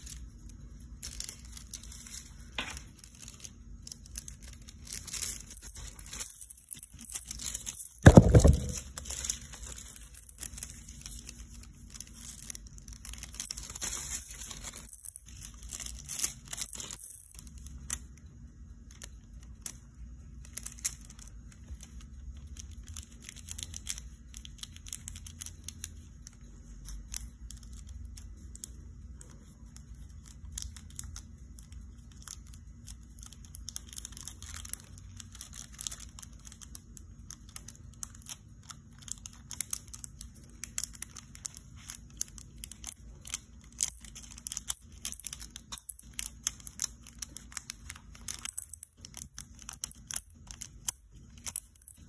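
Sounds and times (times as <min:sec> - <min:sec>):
foil crinkling and crackling: 0:00.0 - 0:52.0.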